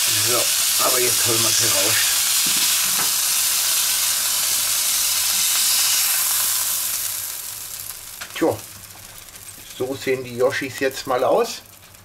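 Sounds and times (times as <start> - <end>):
steaks sizzling on a grill: 0.0 - 12.0.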